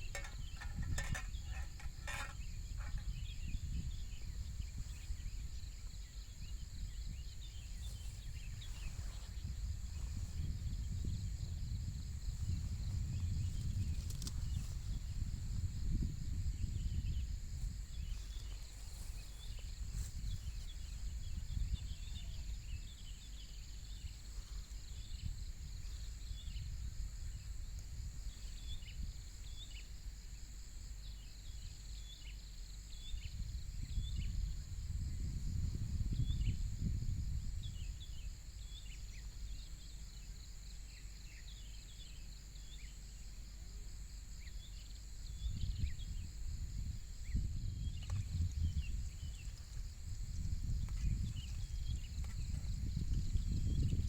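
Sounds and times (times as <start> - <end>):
insects buzzing trill: 0.0 - 54.0
wind rumble on microphone: 0.0 - 54.0.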